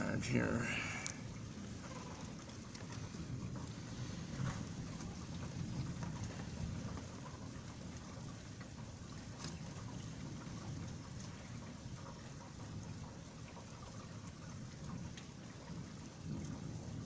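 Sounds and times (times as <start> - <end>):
low thunder rumble: 0.0 - 17.0
rain drop ticks: 0.0 - 17.0
steady rain: 0.0 - 17.0.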